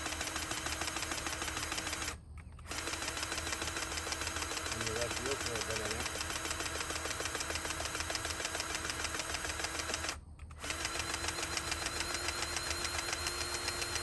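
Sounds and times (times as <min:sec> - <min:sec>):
machine knocking rapidly: 0:00.0 - 0:14.0.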